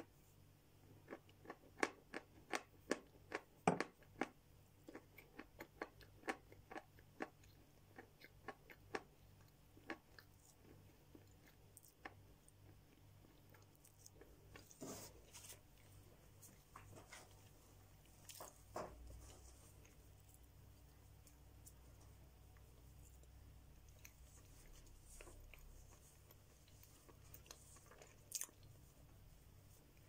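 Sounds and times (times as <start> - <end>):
crunchy chewing of chalk: 0.8 - 30.0.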